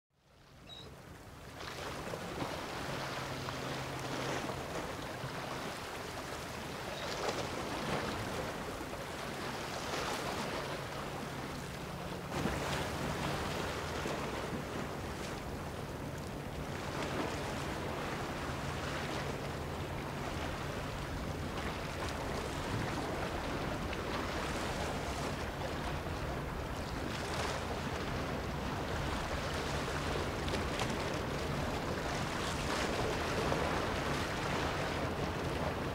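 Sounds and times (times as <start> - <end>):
boat engines humming: 0.3 - 35.9.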